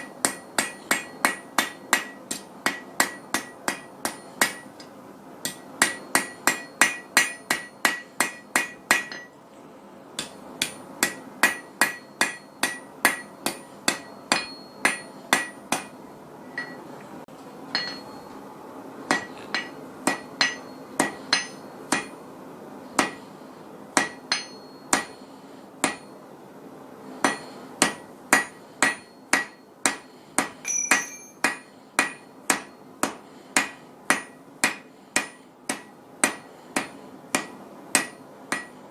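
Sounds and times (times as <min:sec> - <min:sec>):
hammer striking steel on anvil: 0:00.0 - 0:09.4, 0:10.2 - 0:16.8, 0:17.7 - 0:18.4, 0:19.1 - 0:22.2, 0:23.0 - 0:23.3, 0:24.0 - 0:26.2, 0:27.2 - 0:38.8.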